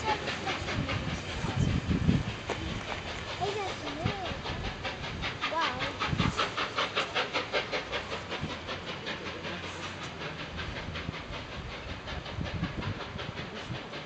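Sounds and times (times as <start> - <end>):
steam locomotive exhaust beats: 0.0 - 14.0.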